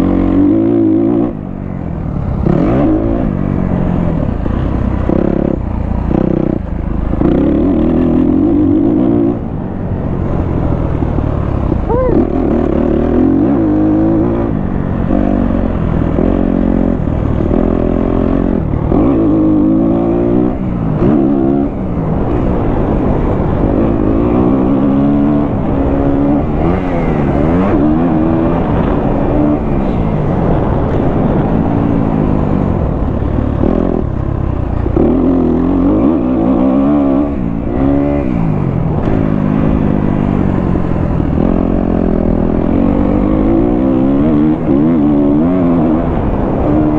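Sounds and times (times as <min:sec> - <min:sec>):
dirt bike engine revving: 0:02.2 - 0:09.6, 0:10.8 - 0:46.9.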